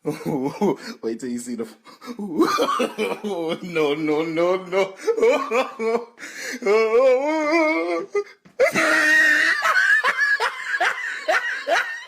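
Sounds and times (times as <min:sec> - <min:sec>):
person laughing hard: 0:02.1 - 0:12.0.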